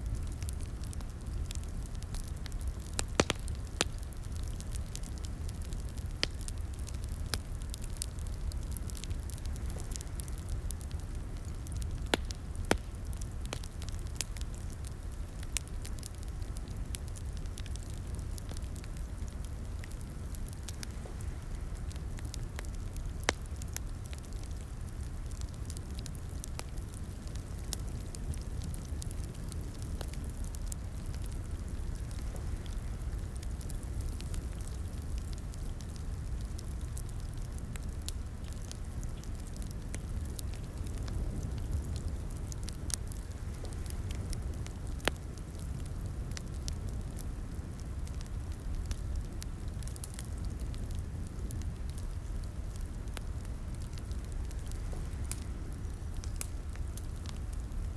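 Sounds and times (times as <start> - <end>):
fire pops and snaps: 0.0 - 57.9
low rumble of flames: 0.0 - 57.9.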